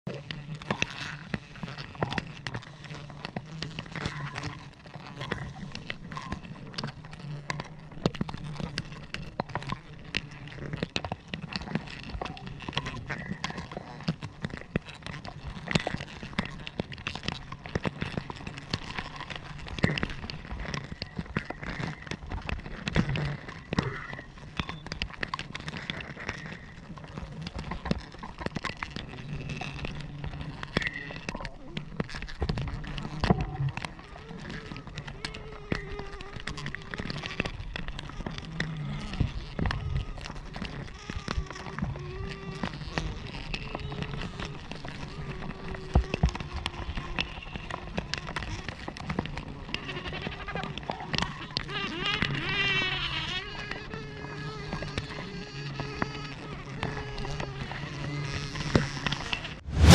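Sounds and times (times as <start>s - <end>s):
sharp clicks and crackles: 0.1s - 51.7s.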